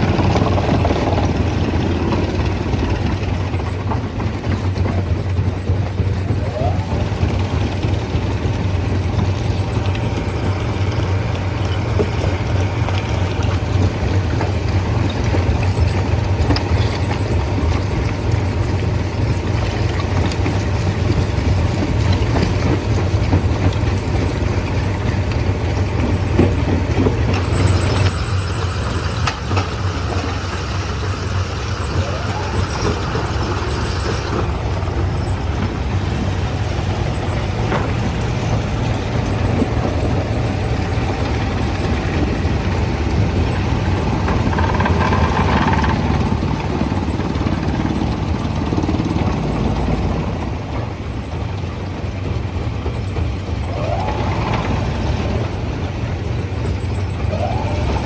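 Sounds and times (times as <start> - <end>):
heavy diesel machinery humming: 0.0 - 58.0.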